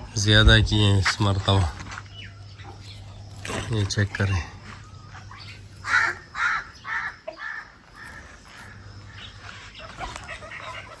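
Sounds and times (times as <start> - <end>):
bird giving harsh calls: 2.2 - 11.0.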